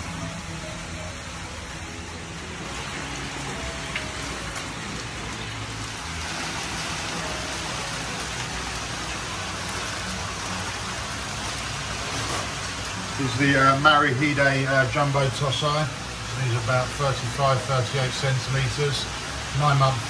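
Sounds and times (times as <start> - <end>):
water splashing and rushing: 1.5 - 20.0.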